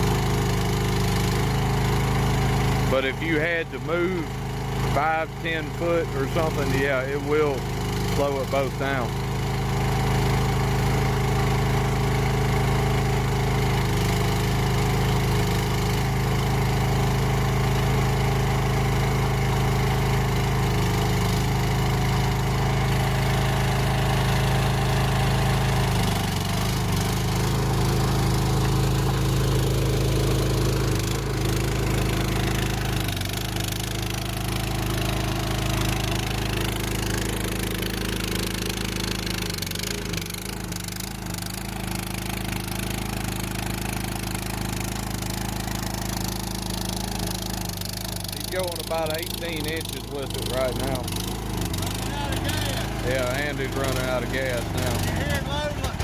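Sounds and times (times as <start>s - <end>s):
skid steer engine under load: 0.0s - 56.0s.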